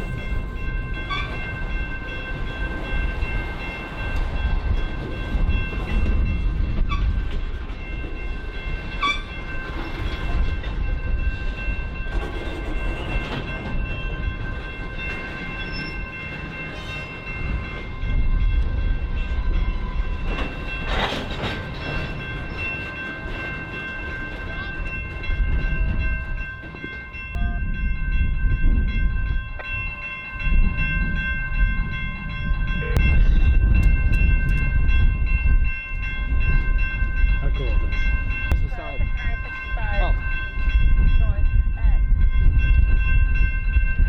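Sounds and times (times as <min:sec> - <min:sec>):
freight train rumbling: 0:00.0 - 0:44.0
high ringing tones: 0:07.8 - 0:20.9, 0:21.7 - 0:44.0.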